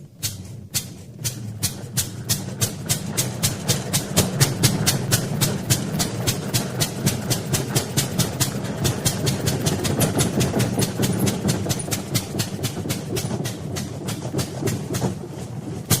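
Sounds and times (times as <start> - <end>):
starter motor cranking engine: 0.0 - 16.0.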